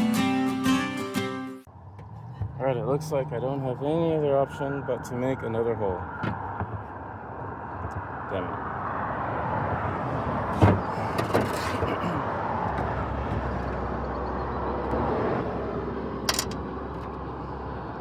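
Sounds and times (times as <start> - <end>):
road traffic passing: 1.6 - 18.0.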